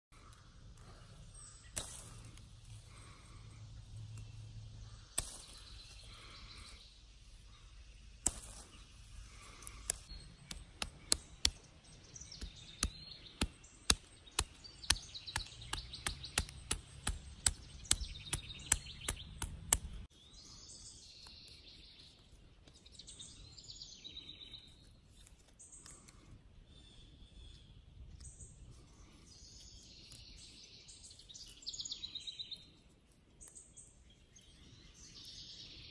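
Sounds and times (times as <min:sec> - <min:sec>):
birds chirping: 0:00.1 - 0:35.9.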